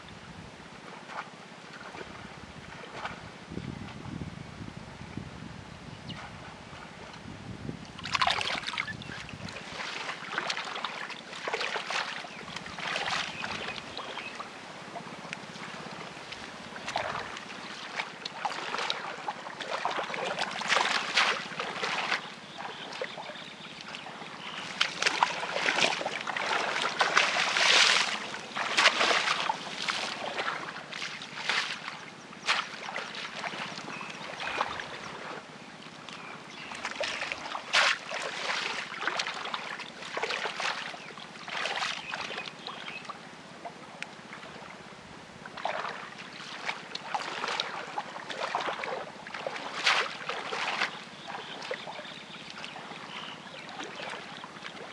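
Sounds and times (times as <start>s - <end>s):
muddy water splashing and sloshing: 0.8s - 4.0s, 6.2s - 54.9s.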